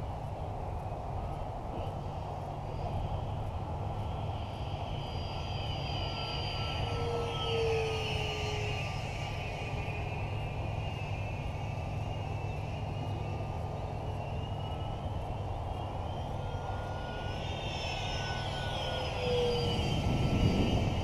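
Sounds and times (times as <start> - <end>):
model jet fan whining: 2.4 - 21.0.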